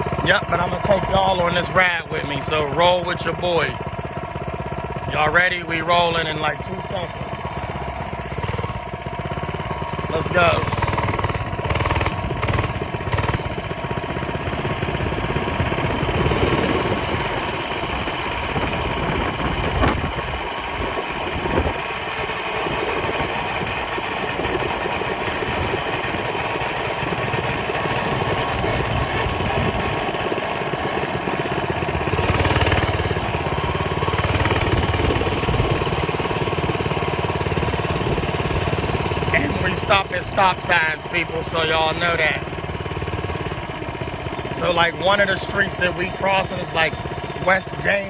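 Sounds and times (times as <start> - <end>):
mini bike engine running: 0.0 - 48.0.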